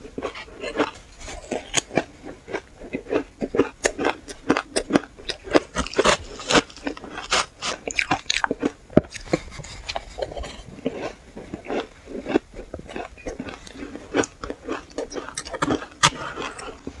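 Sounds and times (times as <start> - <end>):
shaved ice being chewed: 0.0 - 17.0.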